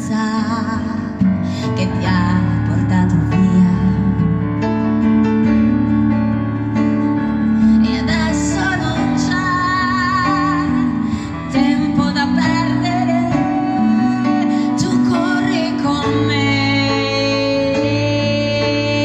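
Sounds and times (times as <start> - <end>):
woman singing into a microphone: 0.0 - 4.7, 7.6 - 19.0
instrumental accompaniment: 0.0 - 19.0.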